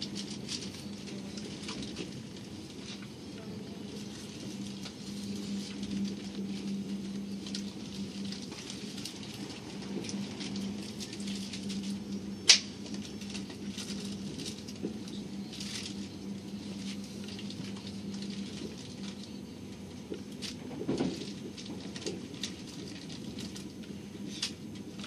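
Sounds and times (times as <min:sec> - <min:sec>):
train cabin hum: 0:00.0 - 0:25.0.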